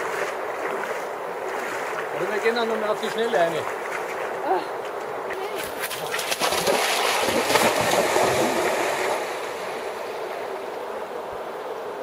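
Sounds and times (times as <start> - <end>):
fast river flowing: 0.0 - 4.6, 5.3 - 10.6
water splashing: 0.0 - 10.6.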